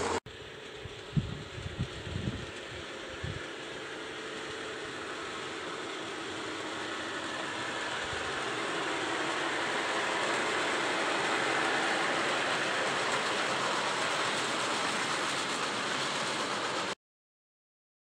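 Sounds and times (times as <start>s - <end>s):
model train wheels on rails: 0.0s - 17.0s.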